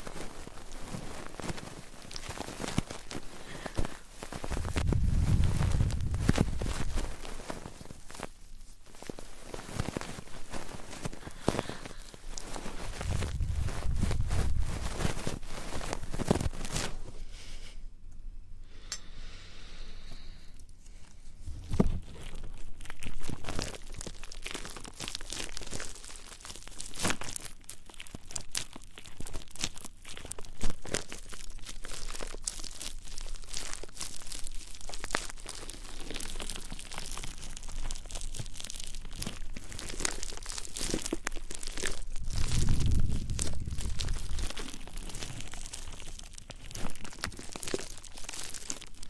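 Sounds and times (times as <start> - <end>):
scratching and crinkling on microphone: 0.0 - 17.4, 20.0 - 49.0.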